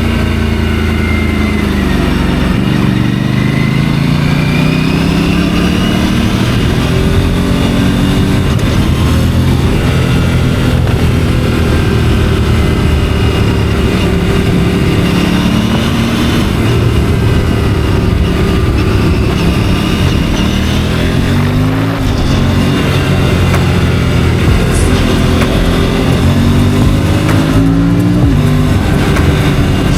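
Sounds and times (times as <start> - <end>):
motorcycle engine pulling: 0.0 - 29.9
wind rush: 4.8 - 29.9.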